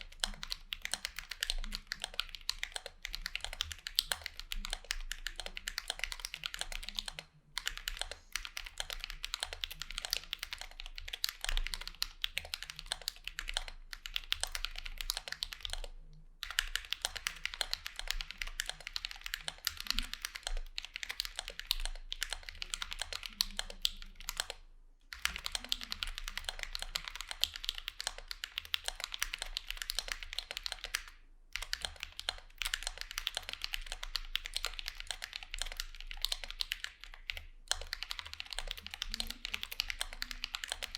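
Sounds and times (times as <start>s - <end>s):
typing on a mechanical keyboard: 0.0s - 40.9s.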